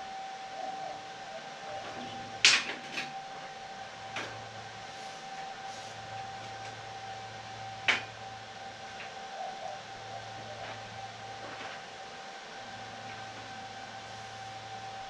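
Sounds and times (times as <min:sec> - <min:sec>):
steady high hum: 0:00.0 - 0:15.0.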